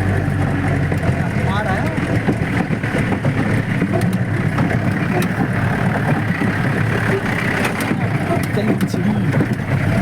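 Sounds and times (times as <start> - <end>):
jeep engine low rumble: 0.0 - 10.0.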